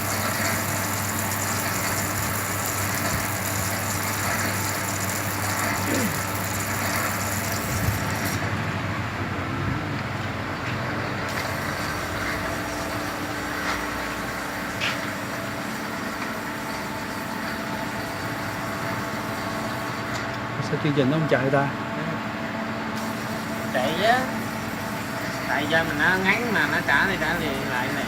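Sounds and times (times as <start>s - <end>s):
machine humming and hissing: 0.0s - 28.0s.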